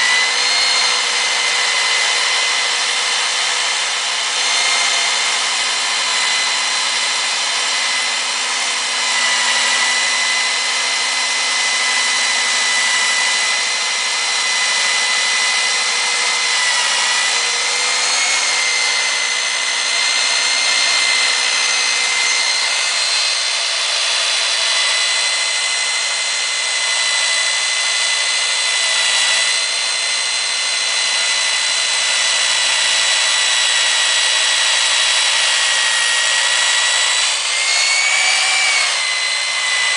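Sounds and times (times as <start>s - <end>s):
drill bit grinding concrete: 0.0s - 39.9s
high motor whine: 0.0s - 39.9s.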